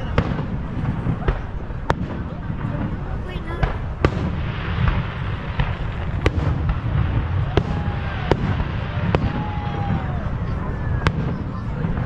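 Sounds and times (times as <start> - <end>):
fireworks bangs: 0.0 - 12.0
steady low rumble: 0.0 - 12.0.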